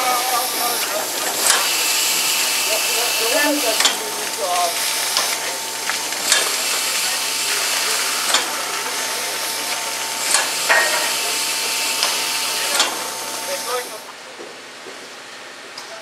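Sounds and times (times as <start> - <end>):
steam locomotive hissing: 0.0 - 14.1.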